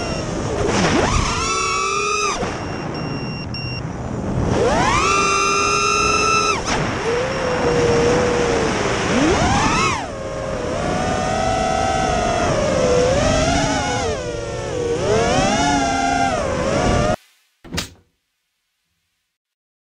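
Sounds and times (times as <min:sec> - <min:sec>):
quadcopter motors whining: 0:00.0 - 0:03.6, 0:04.4 - 0:17.2.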